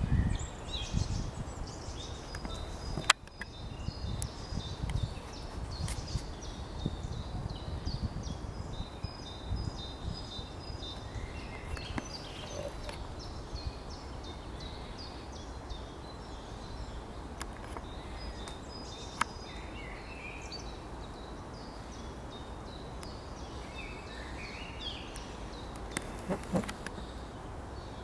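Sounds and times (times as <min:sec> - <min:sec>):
small birds singing and chirping: 0:00.0 - 0:28.0.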